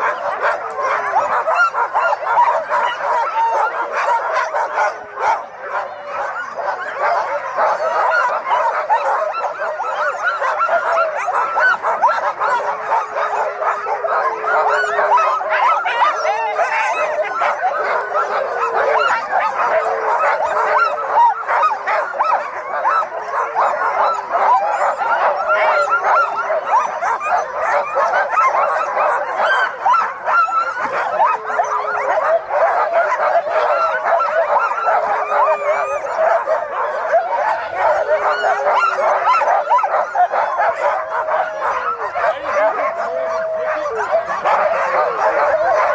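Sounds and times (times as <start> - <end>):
dogs' drawn-out calls: 0.0 - 45.9
sled dogs barking and yelping: 0.0 - 45.9.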